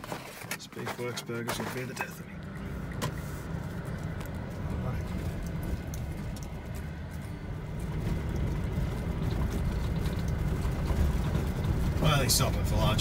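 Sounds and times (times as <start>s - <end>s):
gravel ticks: 0.0s - 13.0s
tyres and engine rumble: 0.0s - 13.0s.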